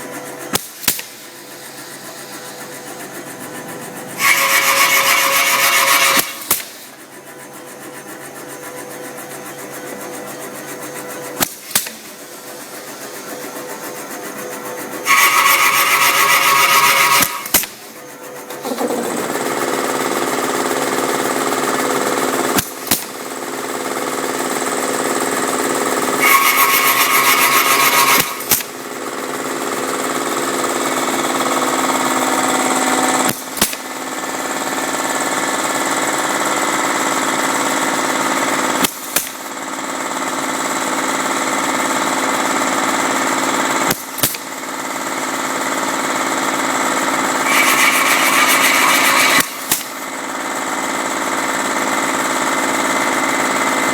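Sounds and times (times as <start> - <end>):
mortising machine cutting: 0.4 - 39.7, 42.8 - 52.0.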